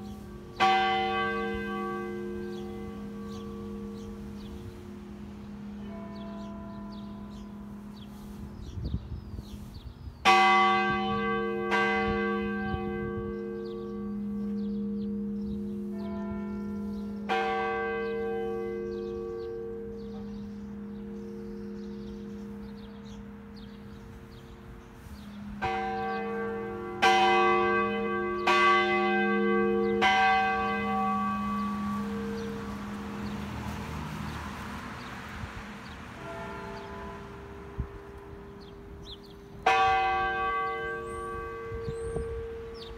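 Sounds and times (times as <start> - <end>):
church bell ringing: 0.0 - 42.9.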